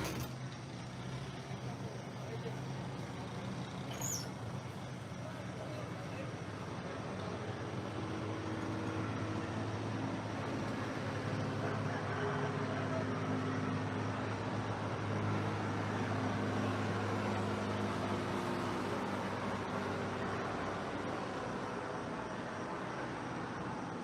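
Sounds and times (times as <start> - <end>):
steady engine drone: 0.0 - 24.0.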